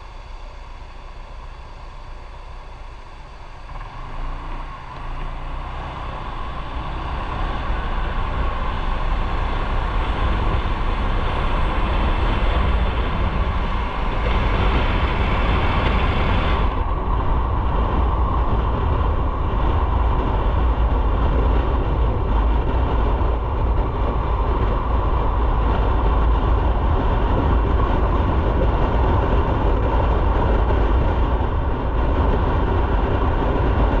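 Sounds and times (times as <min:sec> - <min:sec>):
motorcycle engine: 0:00.0 - 0:34.0
wind and road rush: 0:00.0 - 0:34.0.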